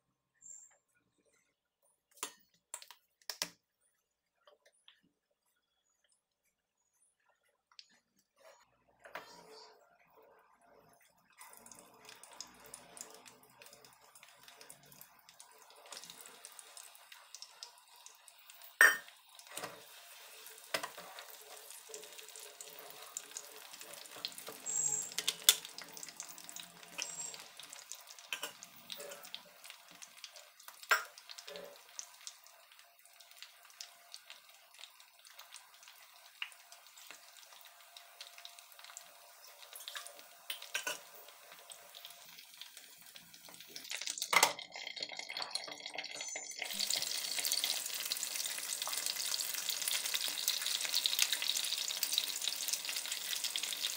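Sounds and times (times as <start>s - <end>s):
oil sizzling in a frying pan: 9.2s - 53.9s.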